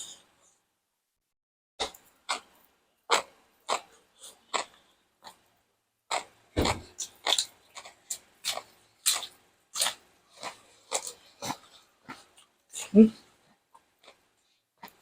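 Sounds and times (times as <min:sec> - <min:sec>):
chewing crispy food: 0:01.8 - 0:05.5, 0:06.1 - 0:15.0.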